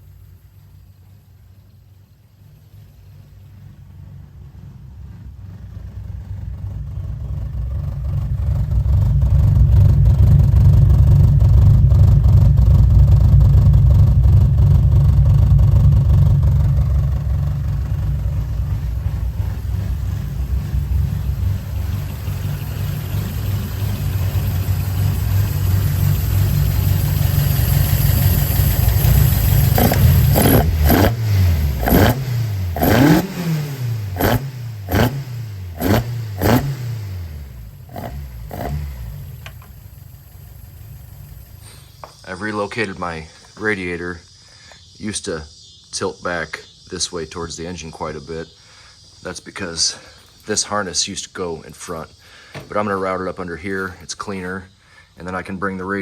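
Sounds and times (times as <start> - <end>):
car engine idling: 0.0 - 45.8
engine revving with throttle blips: 2.5 - 56.0.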